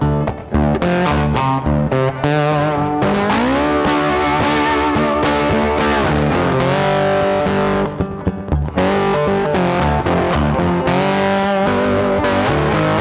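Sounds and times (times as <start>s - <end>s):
guitar-led background music: 0.0s - 13.0s.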